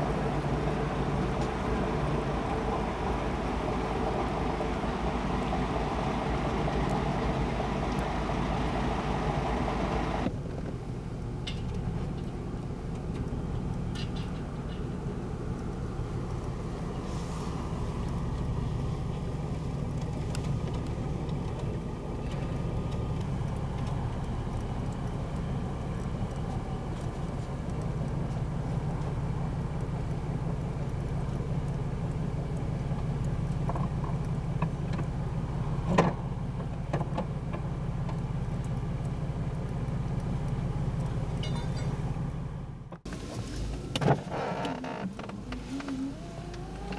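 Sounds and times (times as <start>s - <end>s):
boat engine idling: 0.0s - 10.3s, 12.2s - 42.9s.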